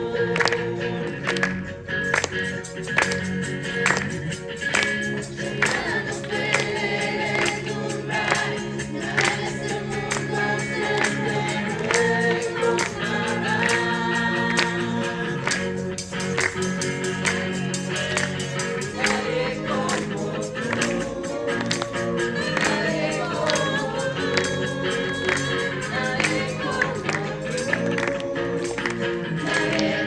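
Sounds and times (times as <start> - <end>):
group singing worship song: 0.0 - 1.7, 4.0 - 30.0
steady percussion beat: 2.5 - 30.0.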